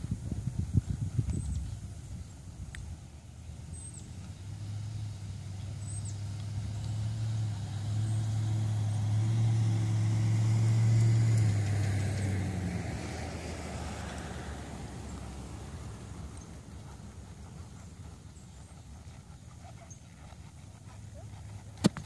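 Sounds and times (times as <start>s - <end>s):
vehicle engine humming: 2.3s - 22.0s.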